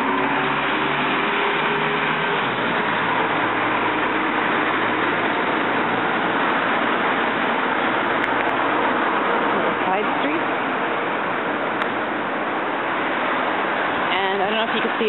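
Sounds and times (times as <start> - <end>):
bus engine humming: 0.0 - 15.0
rush of passing traffic: 0.0 - 15.0.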